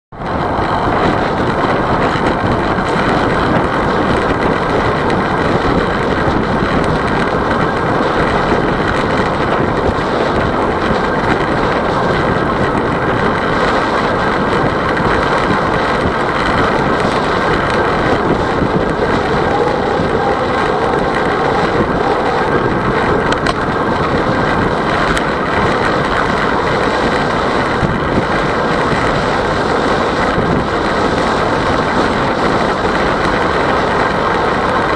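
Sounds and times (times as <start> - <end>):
road noise: 0.1 - 34.9
wind on microphone: 0.1 - 34.9.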